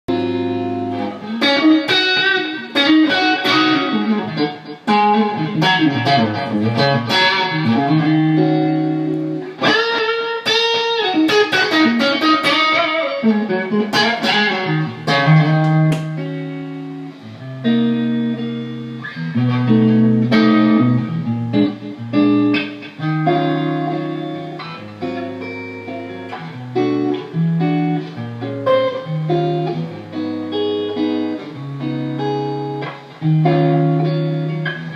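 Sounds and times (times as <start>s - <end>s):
electric guitar playing: 0.1s - 34.9s.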